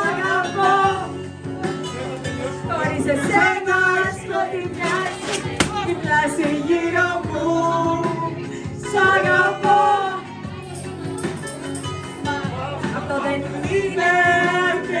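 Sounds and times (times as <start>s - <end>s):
man singing: 0.0s - 1.2s, 2.0s - 10.3s, 12.2s - 15.0s
woman singing: 0.0s - 1.3s, 2.6s - 11.4s, 12.2s - 15.0s
amplified backing music: 0.0s - 15.0s.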